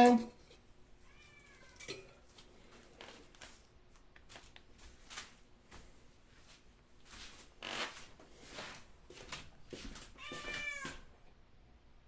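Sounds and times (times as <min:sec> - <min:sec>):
faint rustling and crinkling: 0:00.4 - 0:11.1.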